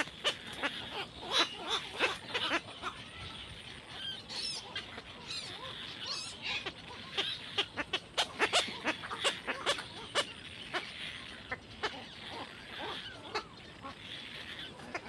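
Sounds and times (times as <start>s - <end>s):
herons giving harsh calls: 0.0s - 15.0s
small bird twittering: 0.0s - 15.0s.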